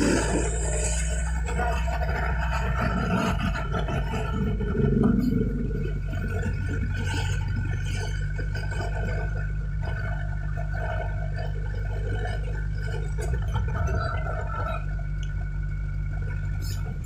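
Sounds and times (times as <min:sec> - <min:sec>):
vehicle engines humming: 0:00.0 - 0:17.0.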